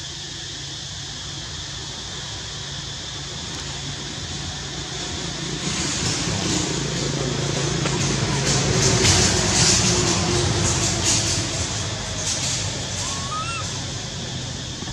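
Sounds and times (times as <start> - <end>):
vehicle engine hum: 0.0 - 14.9.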